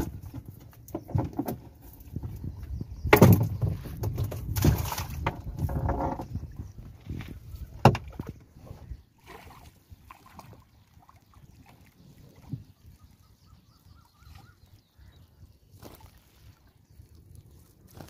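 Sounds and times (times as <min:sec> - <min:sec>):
water sloshing around boat: 0:00.0 - 0:18.0.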